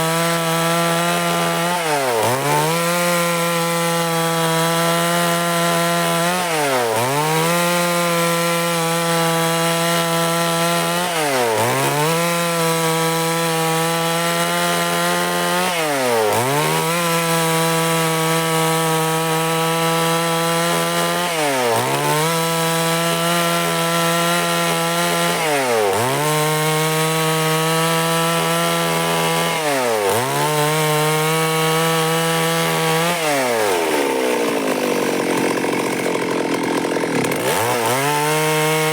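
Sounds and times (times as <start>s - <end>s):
chainsaw sawing log: 0.0s - 38.9s.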